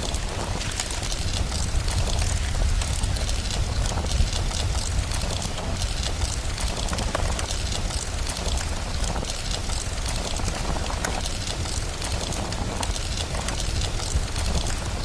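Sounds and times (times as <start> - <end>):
fireplace crackling: 0.0 - 15.0
steady rain hiss: 0.0 - 15.0.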